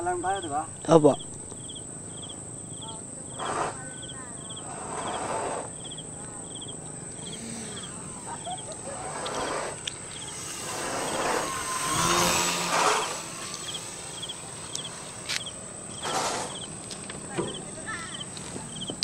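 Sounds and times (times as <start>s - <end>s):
cricket chirping: 0.0s - 19.0s
steady high-pitched whine: 0.0s - 19.0s.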